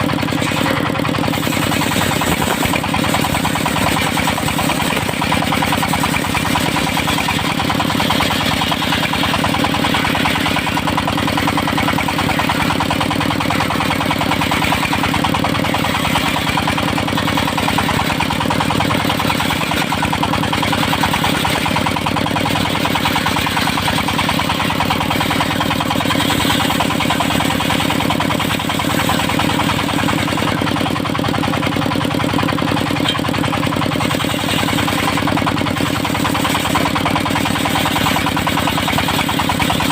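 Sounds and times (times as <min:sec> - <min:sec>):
sawmill engine running steadily: 0:00.0 - 0:39.9.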